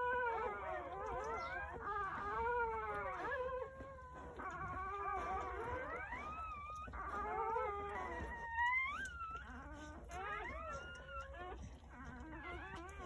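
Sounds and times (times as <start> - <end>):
puppies crying: 0.0 - 13.0.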